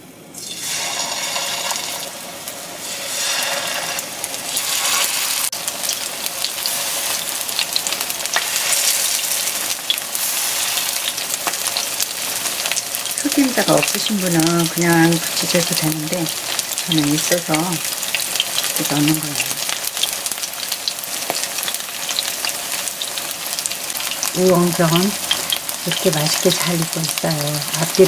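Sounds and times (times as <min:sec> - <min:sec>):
batter sizzling in hot oil: 0:00.0 - 0:28.0.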